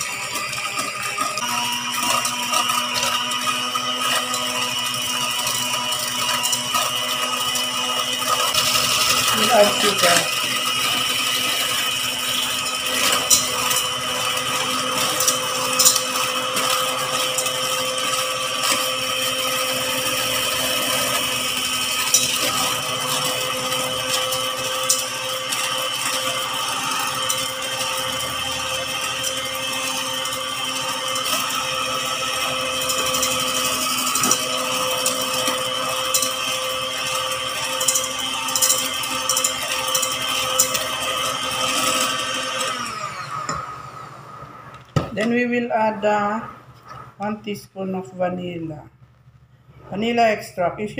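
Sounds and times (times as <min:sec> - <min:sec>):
electric hand mixer running: 0:00.0 - 0:47.4.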